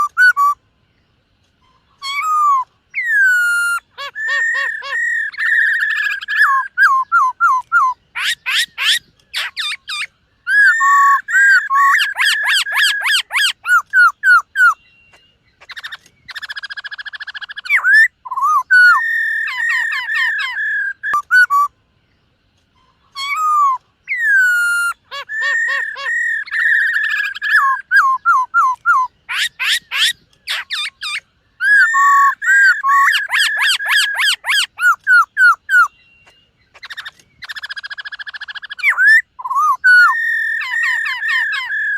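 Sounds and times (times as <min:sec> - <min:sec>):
bird singing whistled phrases: 0:00.0 - 0:00.6, 0:02.0 - 0:21.7, 0:23.2 - 0:41.9.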